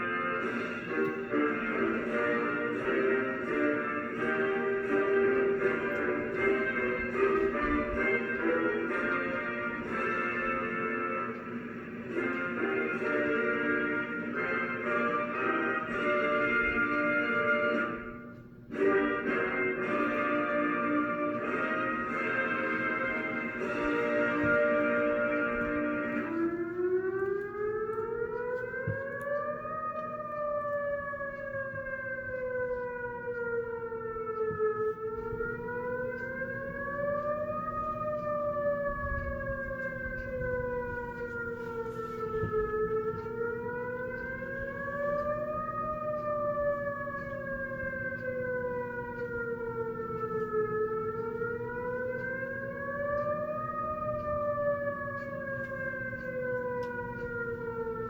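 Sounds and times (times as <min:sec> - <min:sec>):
electronic siren wailing: 0:00.0 - 0:58.0.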